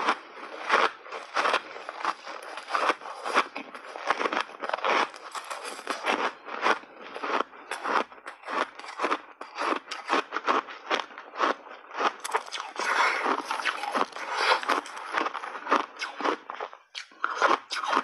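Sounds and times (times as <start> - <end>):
ice crunching being chewed: 0.0 - 18.0.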